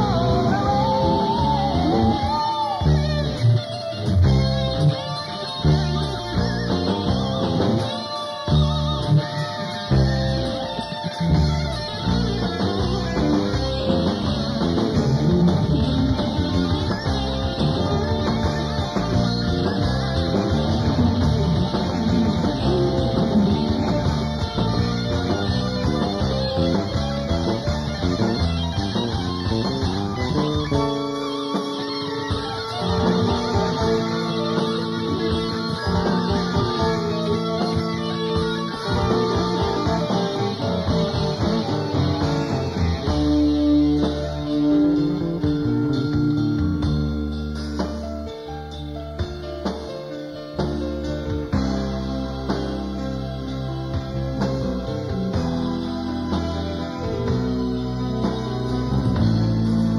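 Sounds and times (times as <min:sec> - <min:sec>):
long held guitar chords: 0:00.0 - 0:59.9
rock band playing: 0:00.0 - 0:59.9.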